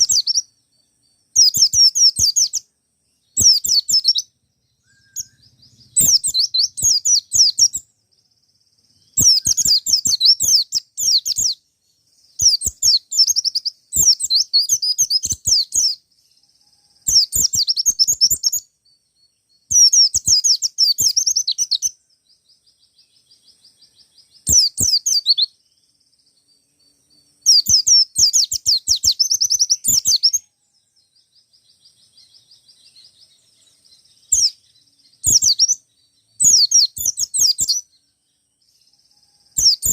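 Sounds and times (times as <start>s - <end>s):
bird twittering song: 0.0s - 39.9s
soft rapid bird trill: 0.0s - 39.9s.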